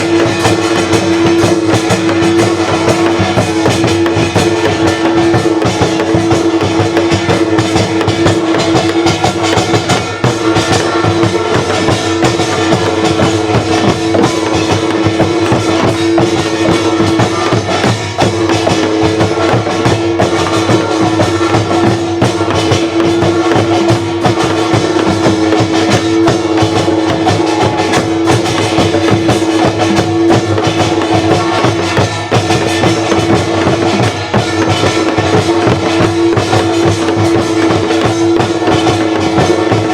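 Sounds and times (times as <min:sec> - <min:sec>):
drums and percussion rhythm: 0:00.0 - 0:39.9.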